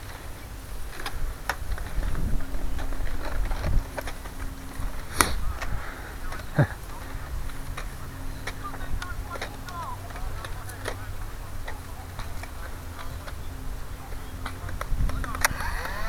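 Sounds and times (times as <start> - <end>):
footsteps on grass: 0.0 - 16.0.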